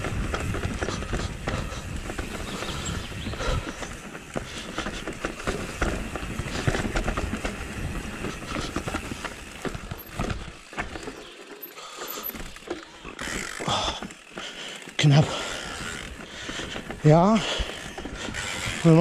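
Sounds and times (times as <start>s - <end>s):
bike knocks and rattles: 0.0s - 19.0s
bike tyres rolling on rocky trail: 0.0s - 19.0s.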